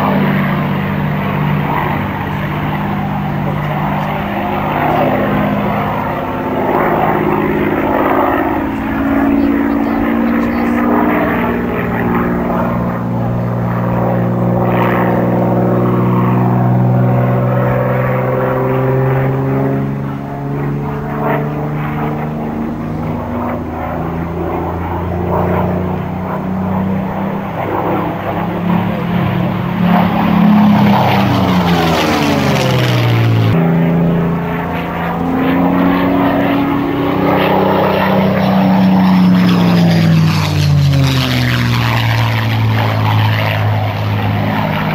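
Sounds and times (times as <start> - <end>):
propeller plane engine drone: 0.0 - 44.9
propeller plane passing by: 0.0 - 44.9.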